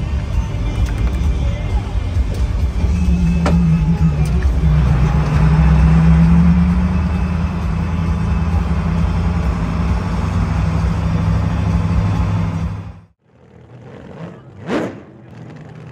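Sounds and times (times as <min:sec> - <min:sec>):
road noise inside cab: 0:00.0 - 0:15.9
vehicle engine drone: 0:00.0 - 0:15.9.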